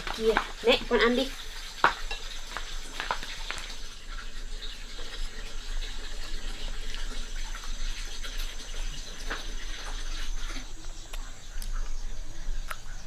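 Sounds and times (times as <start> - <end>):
water running: 0.0 - 13.0.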